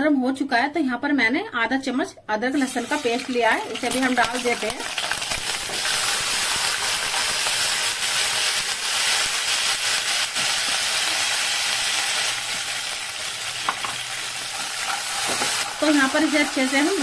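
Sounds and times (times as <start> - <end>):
paste sizzling in hot oil: 2.6 - 17.0.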